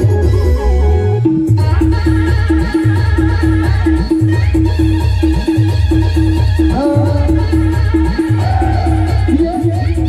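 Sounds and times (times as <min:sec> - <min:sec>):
keyboard riff: 0:00.0 - 0:10.0
pulsing bass beat: 0:00.0 - 0:10.0.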